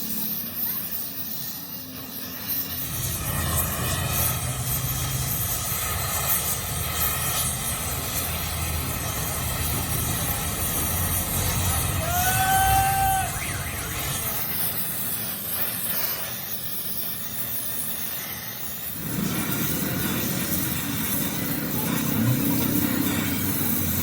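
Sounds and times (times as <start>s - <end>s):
machine running with hum and hiss: 0.0s - 24.0s.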